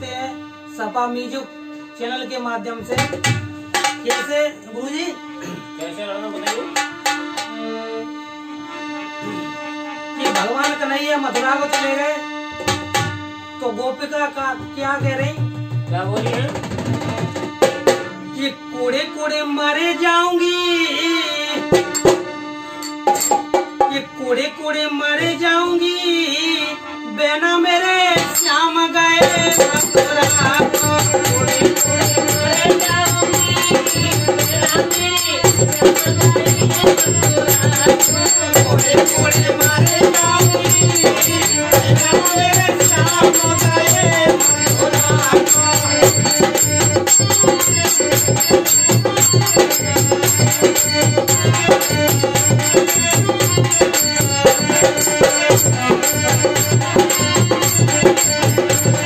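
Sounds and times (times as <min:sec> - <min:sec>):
man singing: 0:00.0 - 0:06.8, 0:08.8 - 0:59.0
harmonium chords: 0:00.0 - 0:59.0
dholak drumming: 0:02.6 - 0:07.8, 0:09.3 - 0:26.0, 0:27.3 - 0:59.0.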